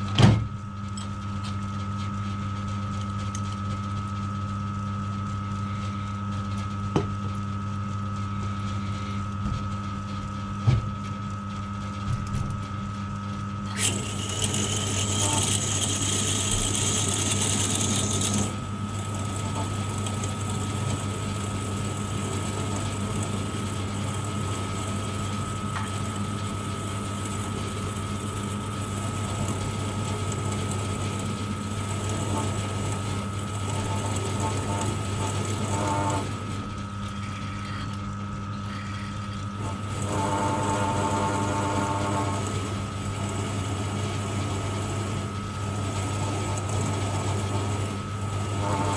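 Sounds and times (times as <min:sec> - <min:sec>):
milling machine motor hum: 0:00.0 - 0:48.9.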